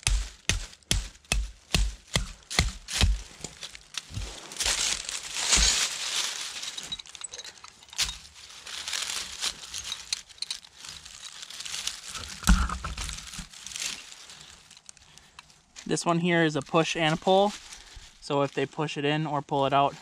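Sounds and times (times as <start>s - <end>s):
dry leaves crunching: 0.0s - 18.7s.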